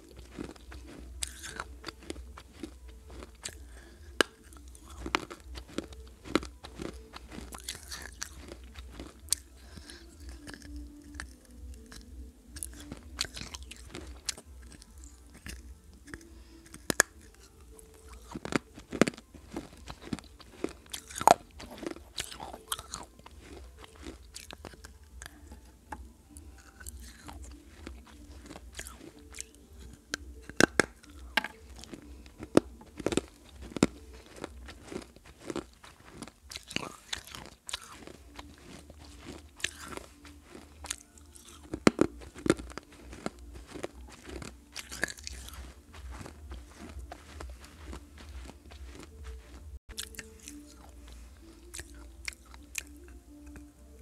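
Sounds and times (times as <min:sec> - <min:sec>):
chewing crunching clay shards: 0:00.0 - 0:54.0.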